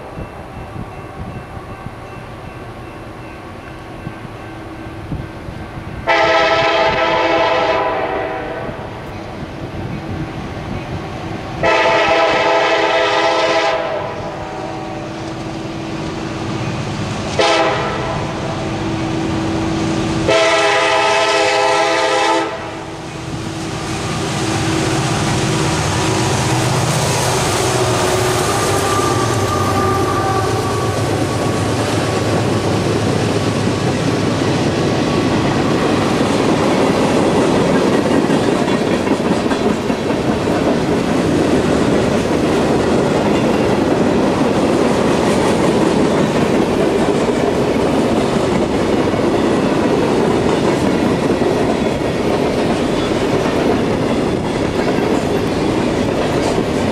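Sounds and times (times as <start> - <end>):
diesel locomotive engine drone: 0.0 - 56.9.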